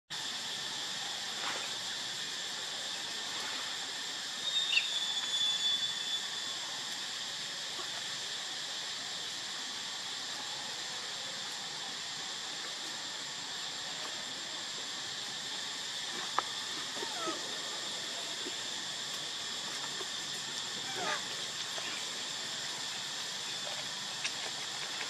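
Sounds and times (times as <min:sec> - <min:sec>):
high-pitched insect chorus: 0:00.1 - 0:25.0
loud high insect call: 0:00.1 - 0:25.0.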